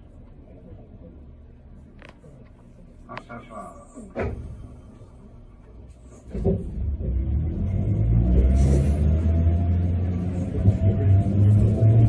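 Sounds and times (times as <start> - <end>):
streetcar rumbling on rails: 0.0 - 12.0.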